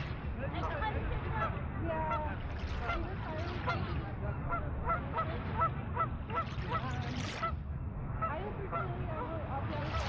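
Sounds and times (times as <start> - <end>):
water washing at the shore: 0.0 - 10.0.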